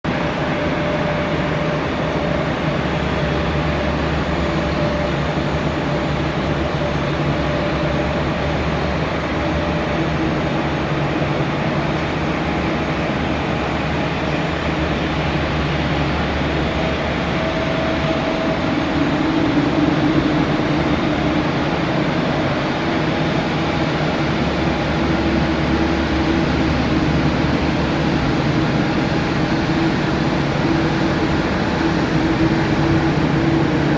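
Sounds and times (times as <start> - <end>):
jet engines rumbling: 0.1 - 33.9.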